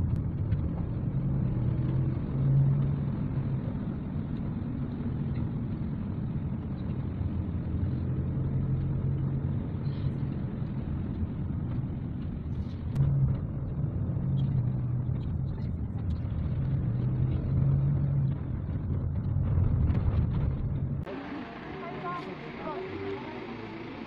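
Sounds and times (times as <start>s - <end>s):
car engine and tyre noise: 0.0s - 24.0s.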